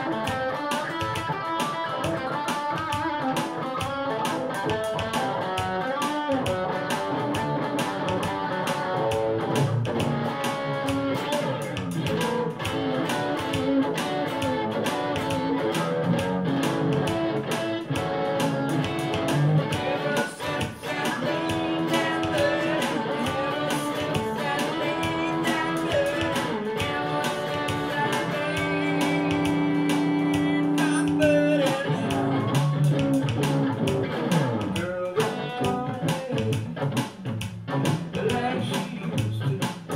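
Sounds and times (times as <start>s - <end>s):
electric guitar playing: 0.0s - 39.9s
steady beat: 0.0s - 39.9s.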